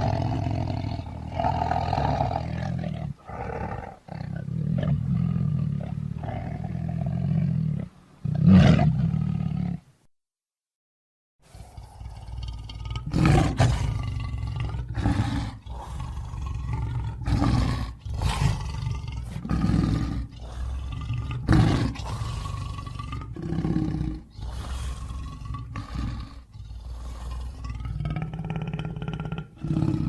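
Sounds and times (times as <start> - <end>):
lion roaring: 0.0 - 9.8, 11.5 - 30.0.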